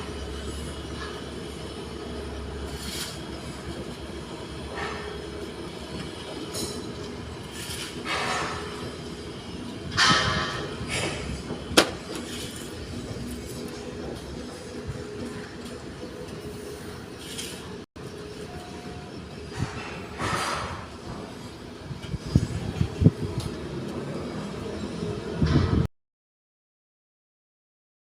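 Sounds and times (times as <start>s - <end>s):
heavy machinery humming: 0.0s - 25.9s.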